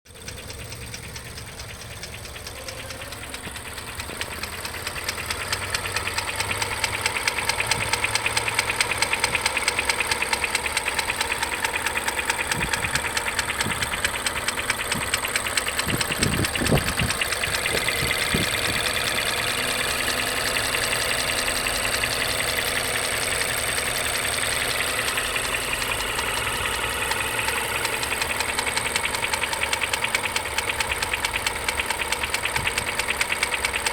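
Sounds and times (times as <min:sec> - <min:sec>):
car engine idling with rattle: 0:00.0 - 0:33.9.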